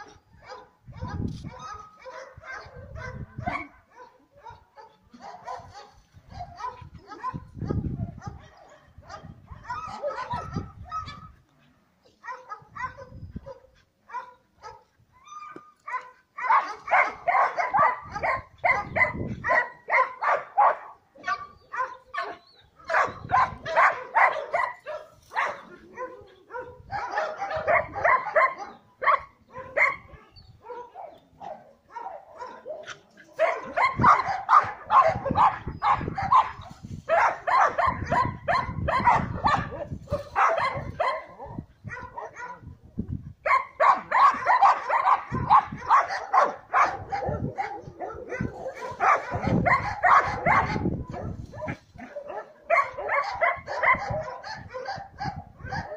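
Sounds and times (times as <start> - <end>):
dogs barking: 0.0 - 11.4, 12.2 - 14.9, 15.8 - 42.8, 43.4 - 55.9.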